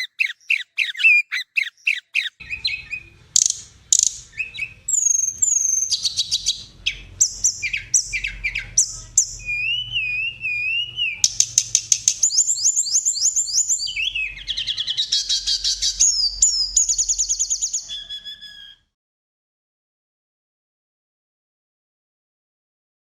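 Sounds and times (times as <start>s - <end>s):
songbird singing trills and whistles: 0.0s - 18.9s.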